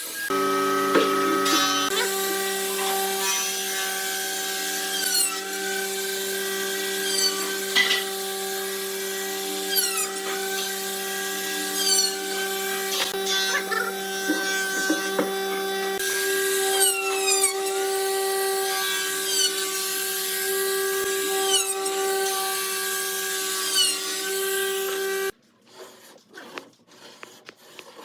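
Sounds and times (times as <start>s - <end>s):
power tool whining: 0.0s - 25.4s.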